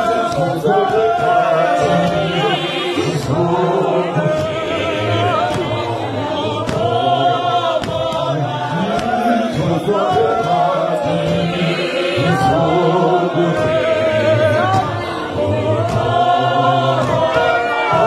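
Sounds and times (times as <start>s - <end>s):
men's choir singing: 0.0s - 18.0s.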